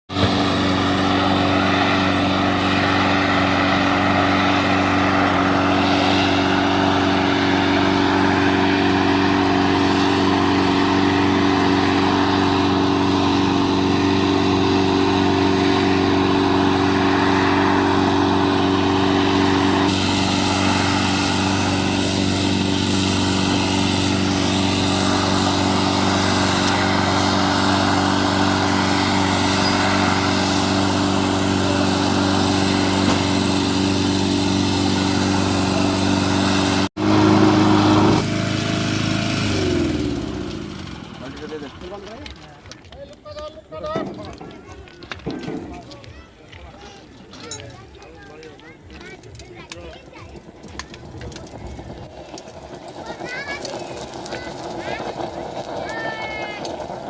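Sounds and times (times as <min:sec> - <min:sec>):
small engine running: 0:00.1 - 0:57.0.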